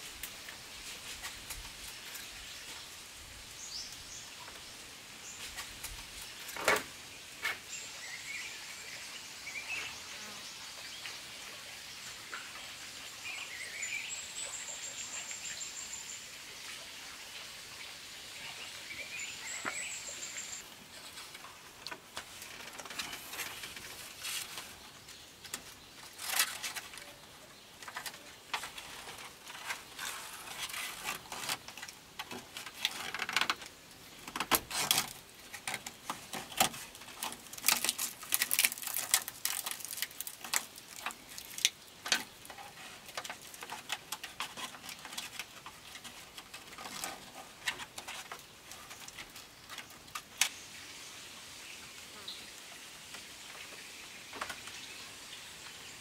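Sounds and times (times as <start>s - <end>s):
bamboo strips rustling and crackling: 0.0s - 8.8s, 9.6s - 56.0s.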